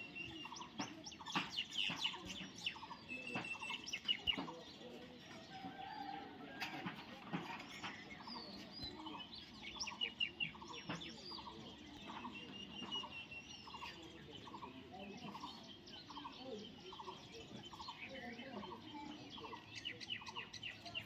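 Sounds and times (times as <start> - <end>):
birds chirping and whistling: 0.0 - 5.7, 7.4 - 21.0.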